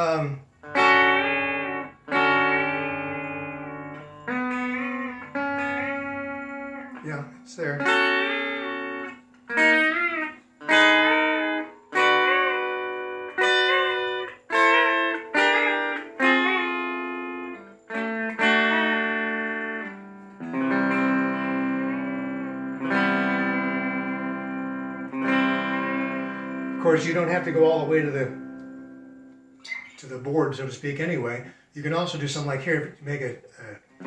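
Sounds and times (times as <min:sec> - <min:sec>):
electric guitar with string bends: 0:00.0 - 0:34.0.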